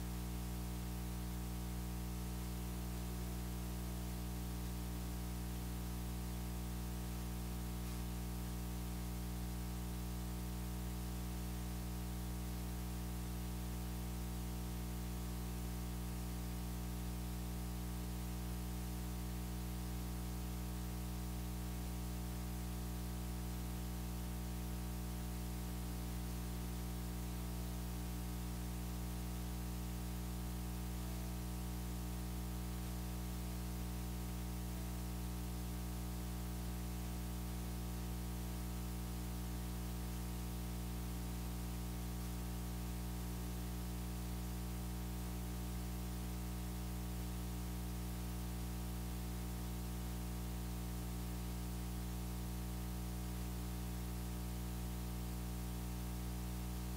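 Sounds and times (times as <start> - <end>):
low electrical hum: 0.0 - 56.9.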